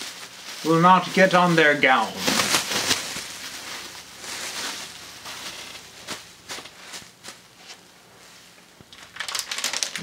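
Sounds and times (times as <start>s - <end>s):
absorbent pad rustling: 0.0s - 8.6s.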